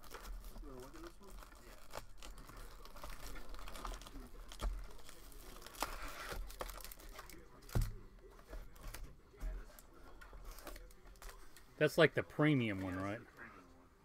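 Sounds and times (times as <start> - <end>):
cardboard rustling and scraping: 0.0 - 11.7.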